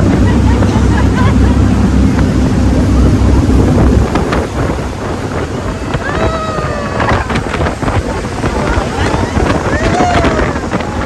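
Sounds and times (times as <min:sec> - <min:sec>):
hiss of rushing air and water: 0:00.0 - 0:11.0
jet boat running: 0:00.0 - 0:11.0
wind buffeting microphone: 0:00.0 - 0:11.0.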